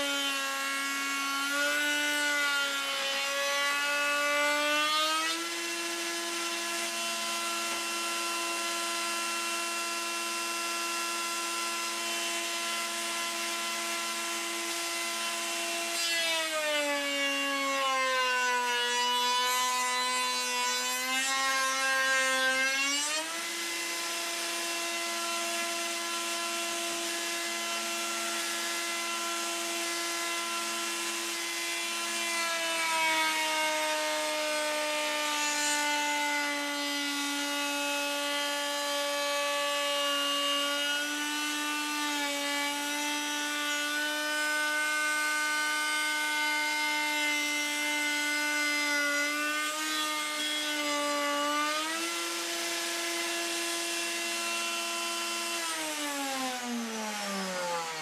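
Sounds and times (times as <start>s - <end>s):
router whining: 0.0s - 58.0s.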